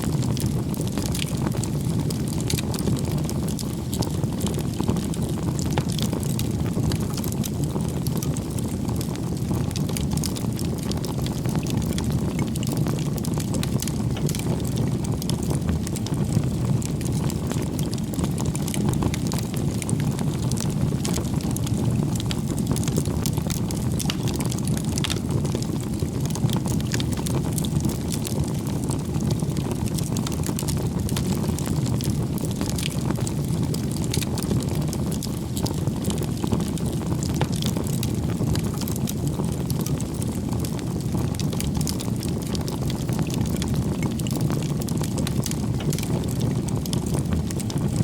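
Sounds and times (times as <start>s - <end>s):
campfire burning and crackling: 0.0s - 48.0s.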